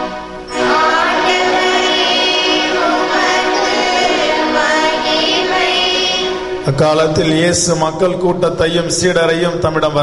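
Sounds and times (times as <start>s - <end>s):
liturgical singing with accompaniment: 0.0s - 9.4s.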